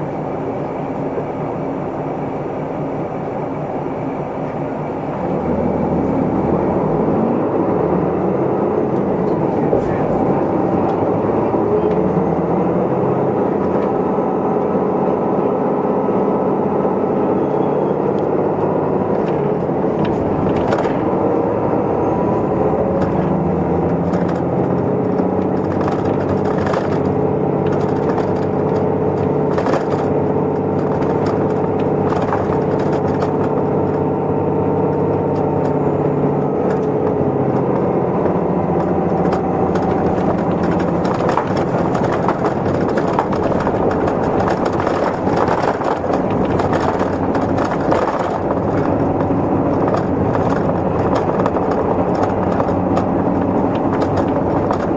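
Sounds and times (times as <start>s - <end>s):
bus diesel engine drone: 0.0s - 54.9s
interior clicks and rattles: 4.5s - 54.9s.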